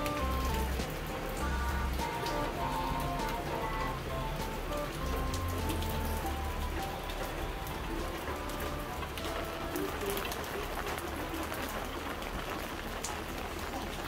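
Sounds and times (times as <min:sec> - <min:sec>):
close raindrops striking: 0:00.0 - 0:14.0
rain on roofs and pavement: 0:00.0 - 0:14.0.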